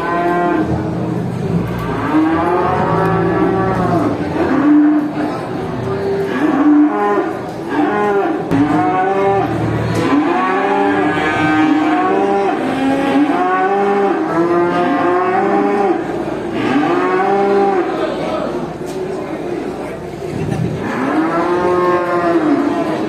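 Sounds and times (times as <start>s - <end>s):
cattle mooing: 0.0s - 0.8s, 1.4s - 5.4s, 6.1s - 17.9s, 20.8s - 23.0s.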